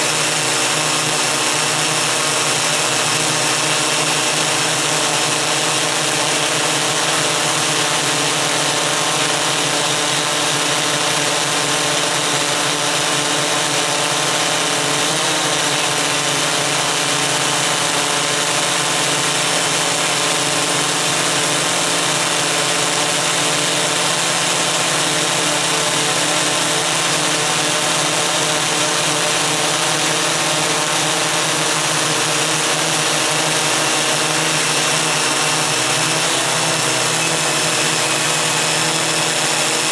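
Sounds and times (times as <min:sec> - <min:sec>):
multicopter motors humming: 0:00.0 - 0:39.9.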